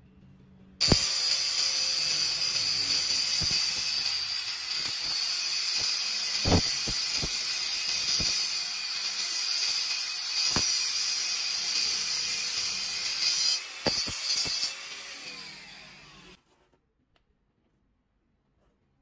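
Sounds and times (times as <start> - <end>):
angle grinder cutting steel: 0.8 - 16.4.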